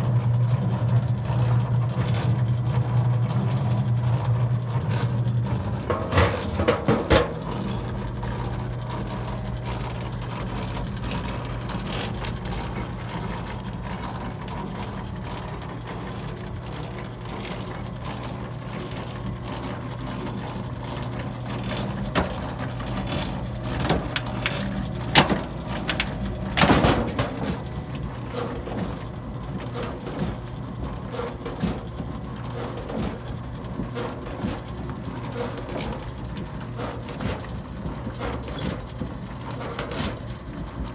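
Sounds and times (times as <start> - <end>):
mechanism clicks and clanks: 0.0 - 40.9
washing machine motor hum: 0.0 - 40.9.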